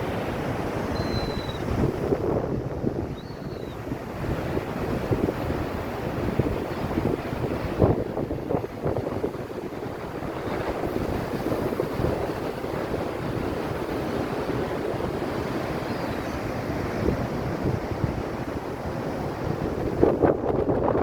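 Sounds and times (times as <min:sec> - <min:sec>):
sea waves surging against wall: 0:00.0 - 0:21.0
wind buffeting microphone: 0:00.0 - 0:21.0.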